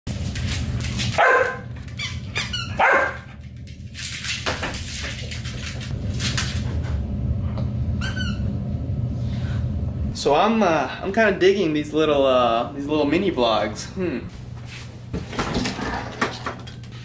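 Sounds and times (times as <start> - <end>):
steady low hum: 2.8 - 17.0.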